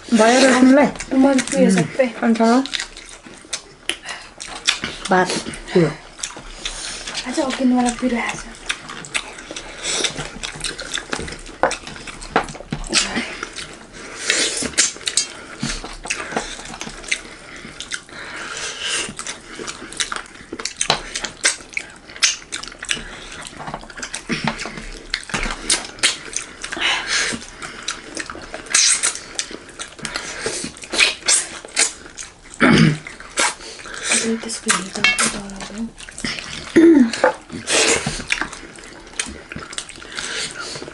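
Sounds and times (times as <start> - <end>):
wet chewing and lip smacking: 0.0 - 40.9.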